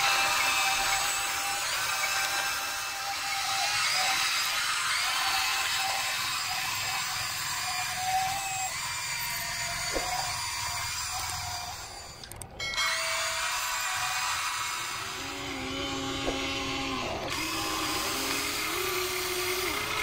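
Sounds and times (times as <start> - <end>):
toy excavator motors whirring: 0.0 - 20.0.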